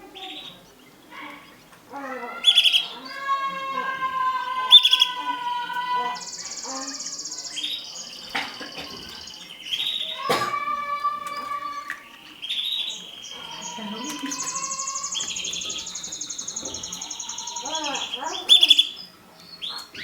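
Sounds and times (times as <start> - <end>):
canary singing trills: 0.0 - 10.4, 11.2 - 20.0.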